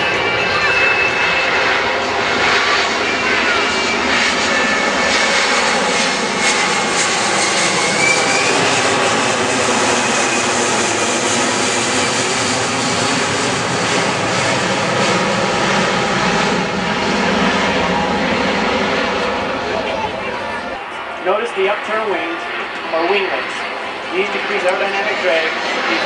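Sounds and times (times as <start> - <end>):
jet engines passing overhead: 0.0 - 26.0.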